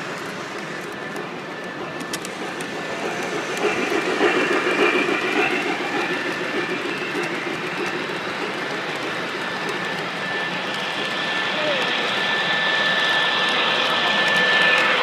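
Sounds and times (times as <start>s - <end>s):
model train wheels rumbling: 0.0s - 12.2s.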